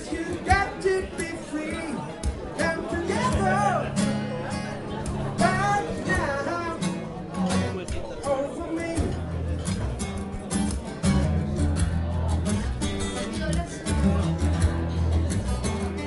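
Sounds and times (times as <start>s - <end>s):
amplified acoustic guitar strumming: 0.0s - 16.0s.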